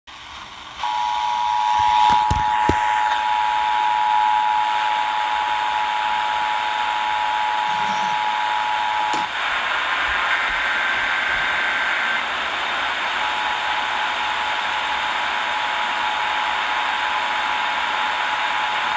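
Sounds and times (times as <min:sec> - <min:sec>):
radio static hiss: 0:00.1 - 0:18.9.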